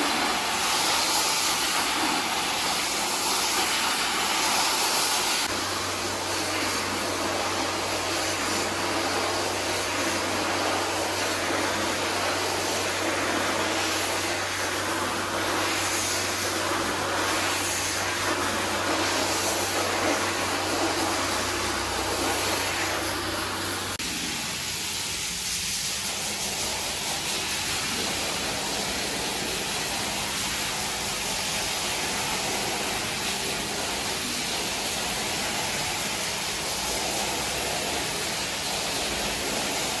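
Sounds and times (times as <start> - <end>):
carpet scrubbing machine running: 0.0 - 40.0
water spraying from a hose: 0.0 - 40.0.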